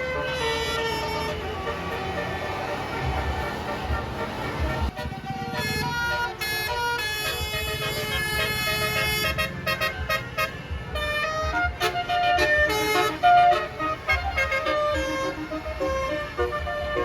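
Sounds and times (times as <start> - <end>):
musical bus horn melody: 0.0 - 17.0.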